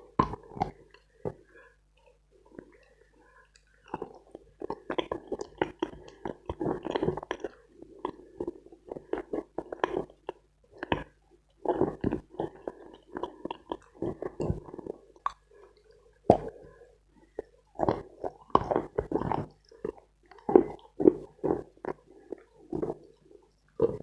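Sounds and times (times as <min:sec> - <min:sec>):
wet mouth sounds: 0:00.0 - 0:01.6, 0:02.5 - 0:24.0.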